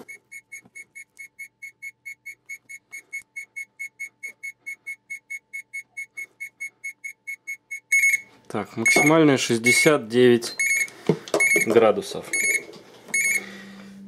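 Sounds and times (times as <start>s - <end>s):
faint electronic hum: 0.0s - 14.0s.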